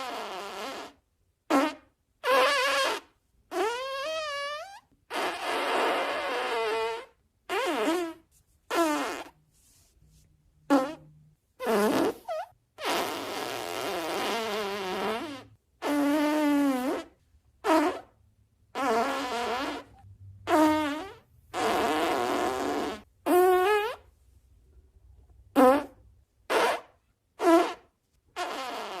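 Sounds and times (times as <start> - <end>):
fart sound effects: 0.0 - 9.4, 10.7 - 24.0, 25.5 - 29.0.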